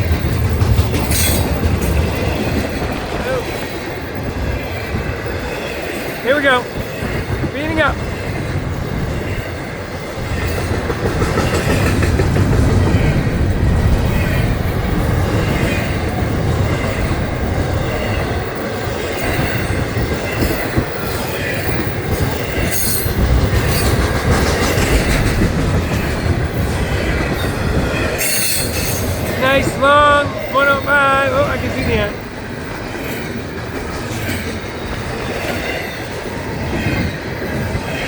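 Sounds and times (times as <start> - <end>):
freight train rumbling past: 0.0 - 38.0
wheels clicking over rail joints: 0.0 - 38.0.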